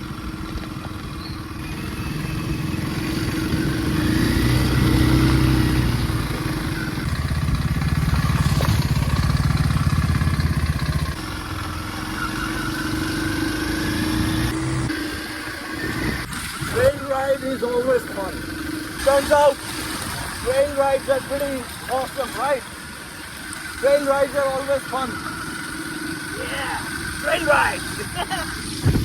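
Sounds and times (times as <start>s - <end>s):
motorcycle engine riding off: 0.0s - 29.0s.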